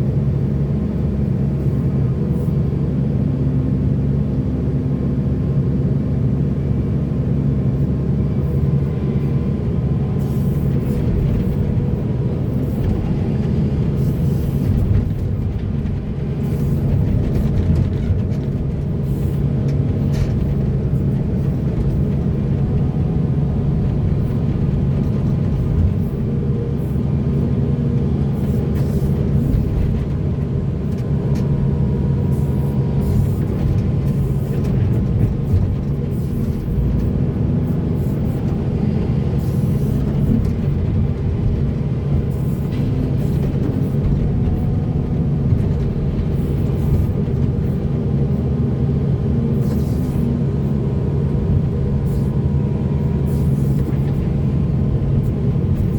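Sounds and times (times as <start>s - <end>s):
heavy diesel machinery engine drone: 0.0s - 55.9s.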